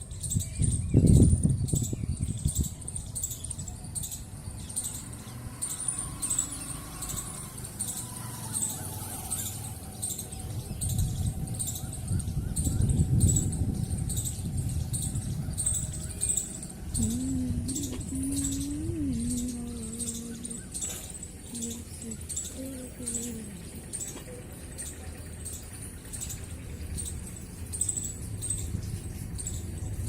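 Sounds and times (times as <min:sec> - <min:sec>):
small bird chirping: 0:00.0 - 0:30.0.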